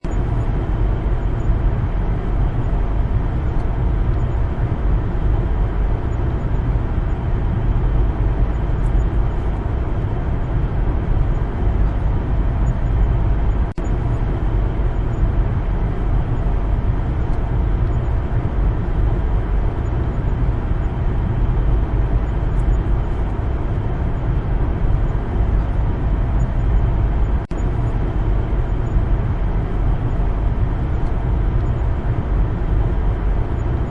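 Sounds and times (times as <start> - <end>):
car engine and tyre rumble: 0.0 - 33.9.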